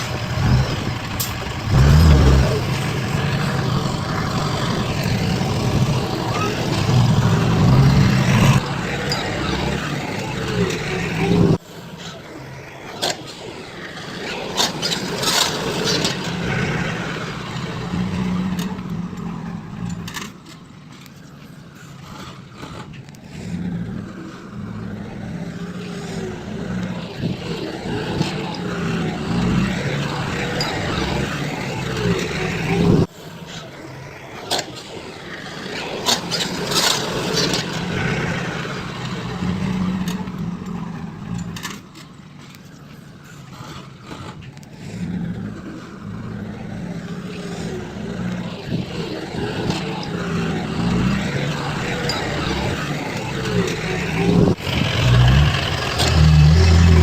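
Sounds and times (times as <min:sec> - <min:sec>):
heavy machinery engine running: 0:00.0 - 0:12.9, 0:13.7 - 0:57.0.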